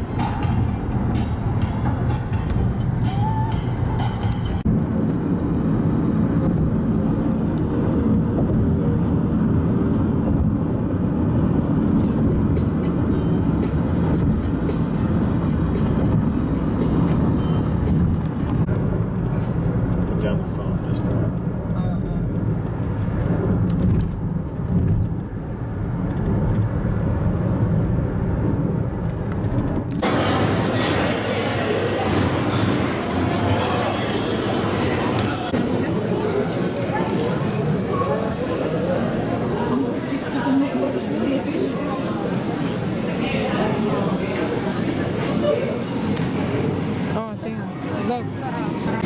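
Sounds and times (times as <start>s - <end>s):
car road noise: 0.0s - 49.0s.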